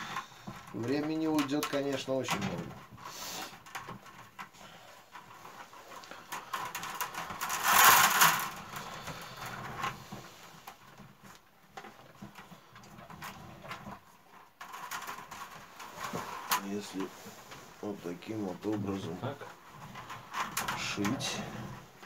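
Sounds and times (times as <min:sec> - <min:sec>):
scraping rustle: 0:00.0 - 0:22.0
willow strips clicking and creaking: 0:00.0 - 0:22.0.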